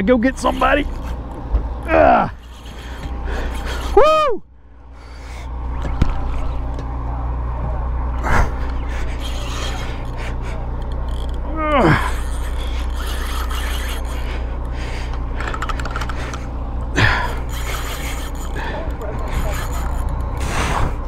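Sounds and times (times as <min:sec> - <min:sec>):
boat motor droning: 0:00.0 - 0:21.0.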